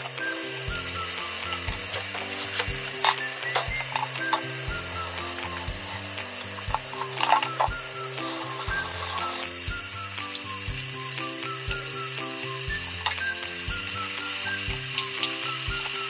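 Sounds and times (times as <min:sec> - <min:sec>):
kitchen utensils clicking: 0:00.0 - 0:09.7, 0:12.5 - 0:16.0
background music with plucked notes: 0:00.0 - 0:16.0.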